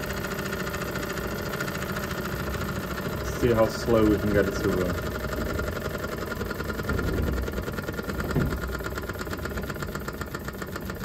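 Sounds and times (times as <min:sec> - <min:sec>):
model steam engine chuffing: 0:00.0 - 0:11.0.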